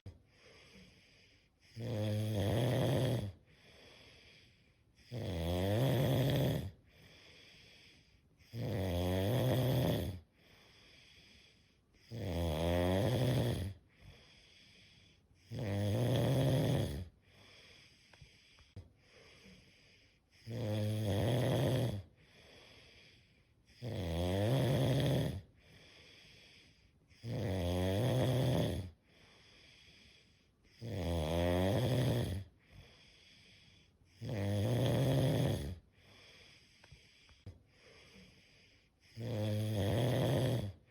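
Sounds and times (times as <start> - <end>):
quiet breathing: 0.0 - 24.0, 24.7 - 27.5, 28.1 - 31.0, 31.6 - 40.9
person snoring: 0.3 - 40.9.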